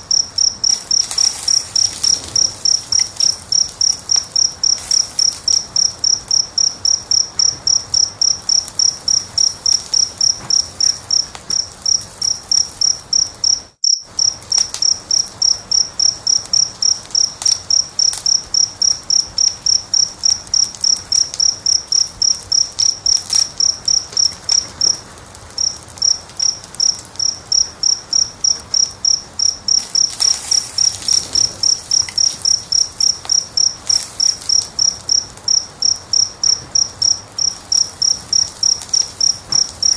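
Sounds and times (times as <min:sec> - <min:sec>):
cricket chirping: 0:00.0 - 0:39.9
wood fire crackling: 0:00.0 - 0:39.9.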